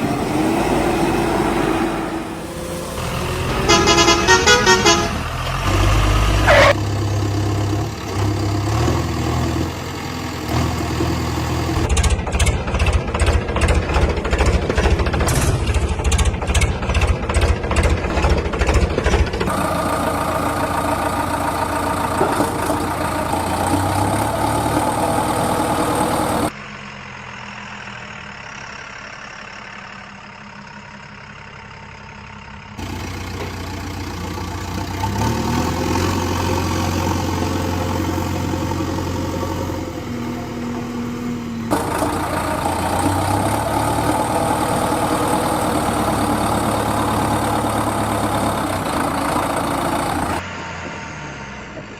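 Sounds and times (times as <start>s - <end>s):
heavy machinery engines idling: 0.0s - 51.0s.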